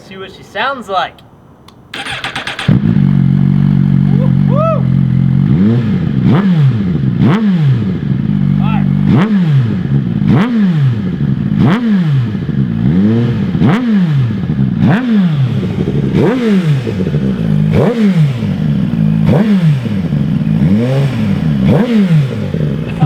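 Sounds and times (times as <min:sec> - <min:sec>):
motorcycle engine revving: 0:02.0 - 0:23.0.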